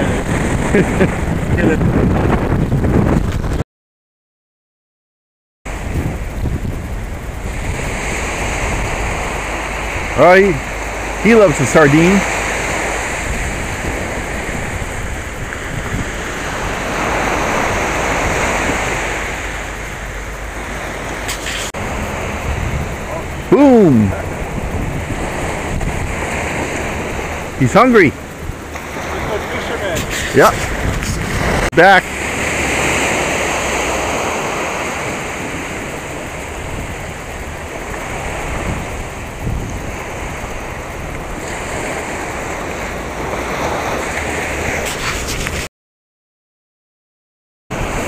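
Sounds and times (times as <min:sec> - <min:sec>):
waves breaking on beach: 0:00.0 - 0:02.6, 0:05.7 - 0:45.7, 0:47.7 - 0:48.0
wind rumble on microphone: 0:00.0 - 0:03.6, 0:05.7 - 0:45.7, 0:47.7 - 0:48.0.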